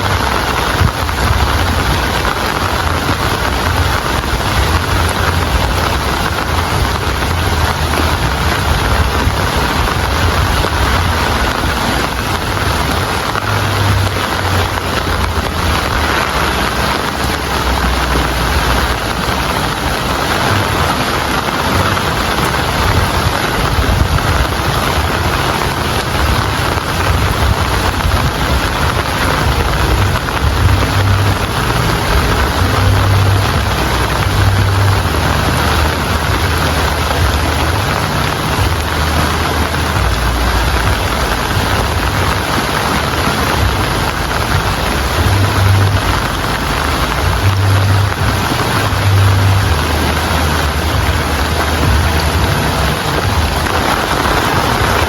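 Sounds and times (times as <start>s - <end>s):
heavy rain: 0.0s - 55.0s
low uneven rumble: 0.0s - 55.0s.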